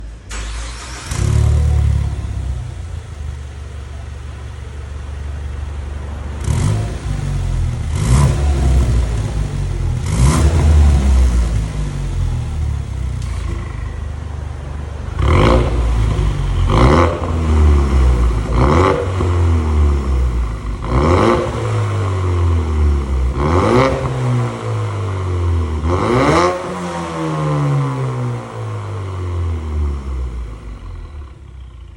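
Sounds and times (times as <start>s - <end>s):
car engine idling and revving: 0.0s - 31.9s.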